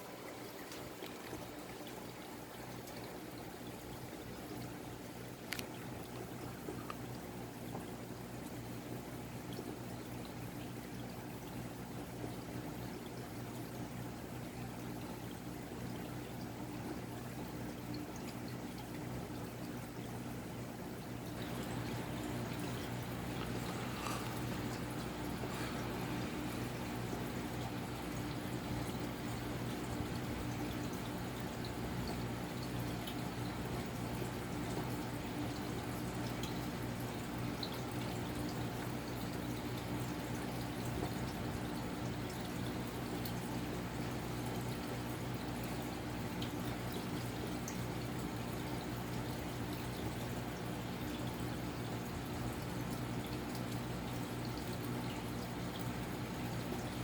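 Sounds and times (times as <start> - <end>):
ceiling fan motor hum: 0.0 - 57.0.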